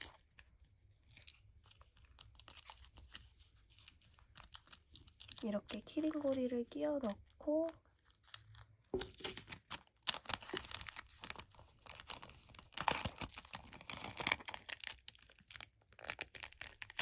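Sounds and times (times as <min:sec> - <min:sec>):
plastic bag crinkling and rustling: 0:00.0 - 0:17.0.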